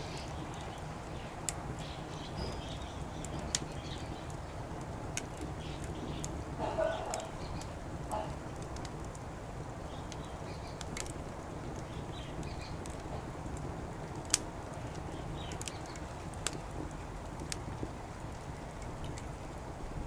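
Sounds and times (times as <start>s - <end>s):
low background noise: 0.0s - 20.0s
wood fire crackling and popping: 0.0s - 20.0s.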